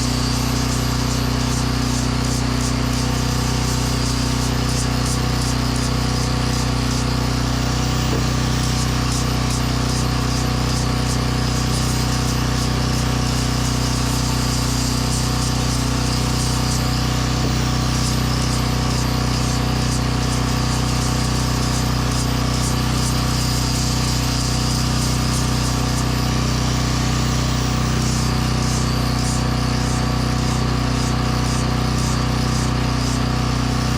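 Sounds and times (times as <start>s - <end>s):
generator engine humming: 0.0s - 33.9s.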